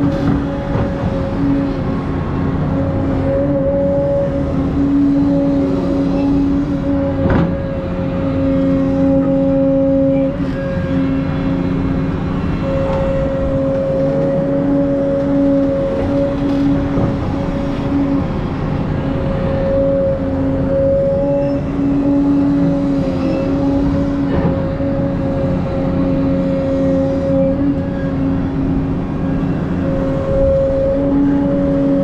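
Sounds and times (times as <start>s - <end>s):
constant humming tone: 0.0s - 32.0s
excavator engine and hydraulics: 0.0s - 32.0s.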